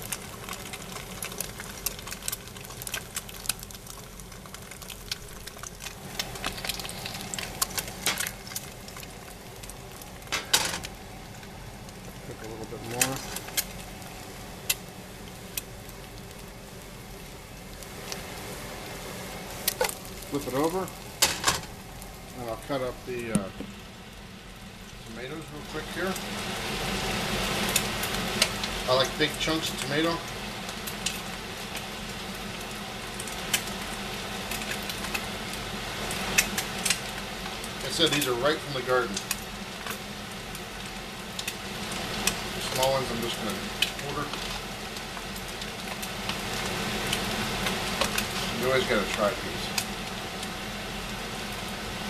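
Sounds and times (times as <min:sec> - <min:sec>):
food sizzling in a pan: 0:00.0 - 0:52.0
sharp crackles: 0:00.0 - 0:52.0.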